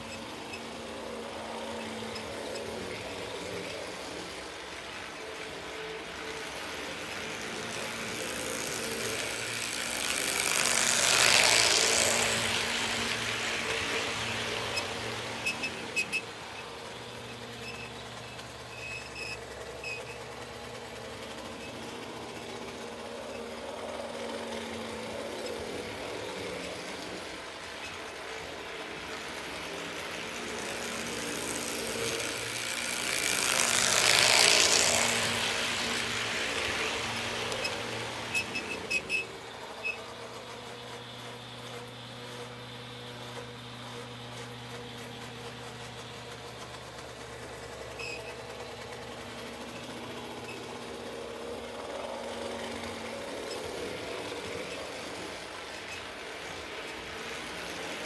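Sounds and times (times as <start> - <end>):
model train motor hum and rumble: 0.0 - 58.0.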